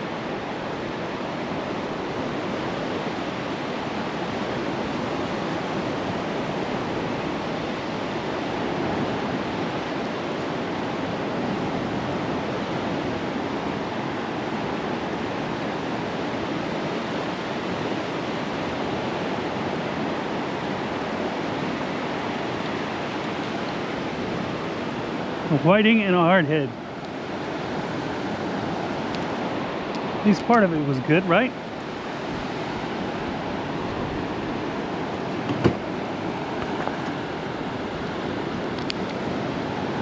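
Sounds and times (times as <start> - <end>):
surf washing onto beach: 0.0 - 40.0.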